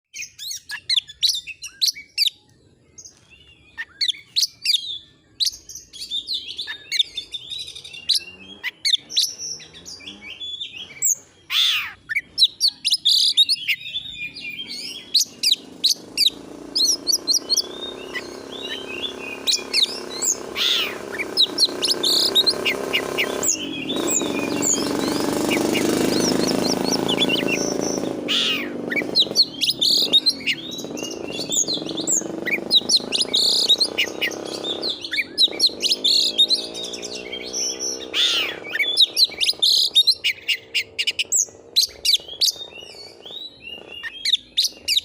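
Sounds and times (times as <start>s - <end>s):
bird singing chirps and trills: 0.1s - 45.0s.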